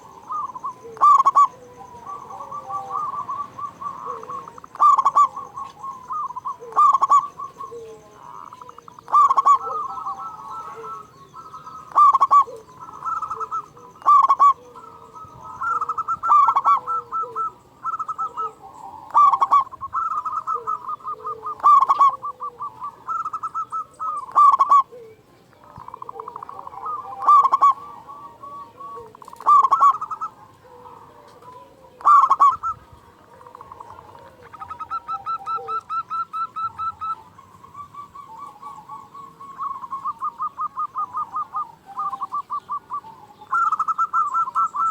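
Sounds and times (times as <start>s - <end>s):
doves cooing: 0.0s - 44.9s.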